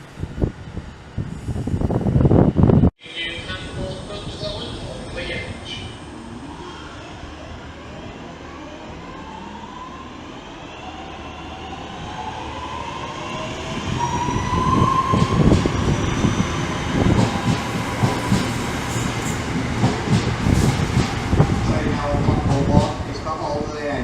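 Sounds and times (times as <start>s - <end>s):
train passing close: 0.0s - 24.0s.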